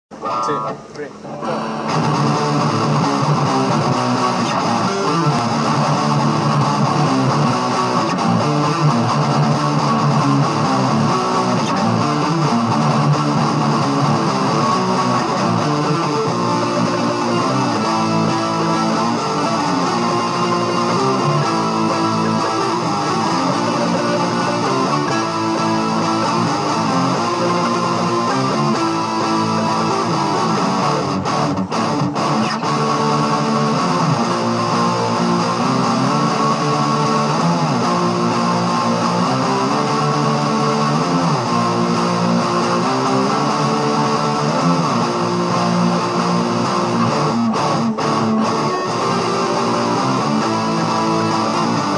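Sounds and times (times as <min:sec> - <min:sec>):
strummed guitar music: 0:00.1 - 0:51.9.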